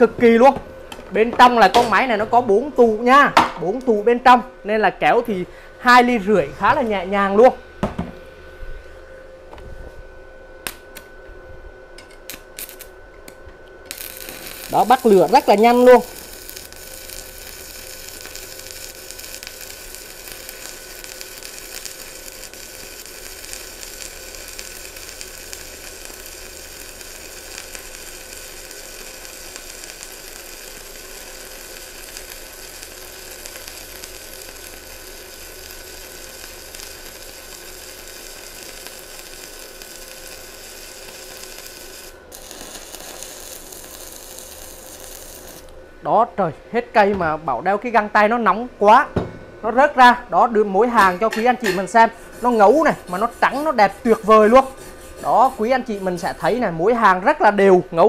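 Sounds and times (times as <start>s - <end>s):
welding arc crackling sizzle: 0.0s - 7.6s, 12.0s - 46.4s, 47.0s - 58.0s.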